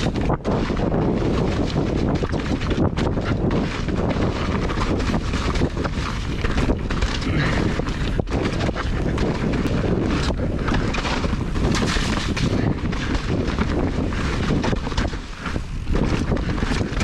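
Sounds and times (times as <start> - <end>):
bike knocking and rattling: 0.0 - 17.0
wind rushing over microphone: 0.0 - 17.0.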